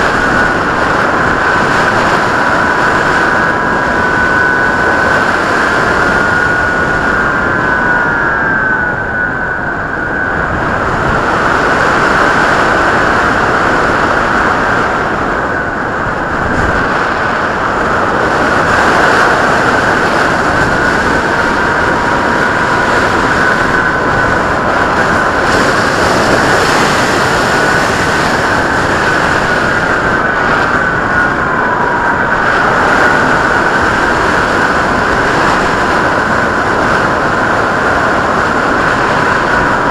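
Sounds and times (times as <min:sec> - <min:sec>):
electric motor and propeller whining: 0:00.0 - 0:39.9
wind noise: 0:00.0 - 0:39.9.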